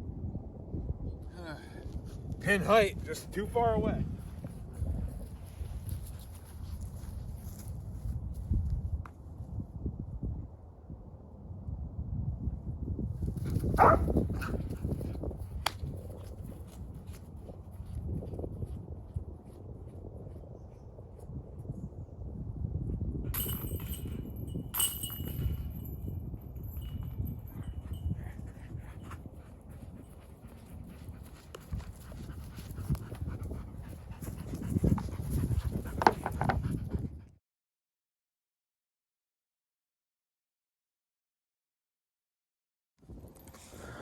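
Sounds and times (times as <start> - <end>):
wind buffeting microphone: 0.0 - 37.4.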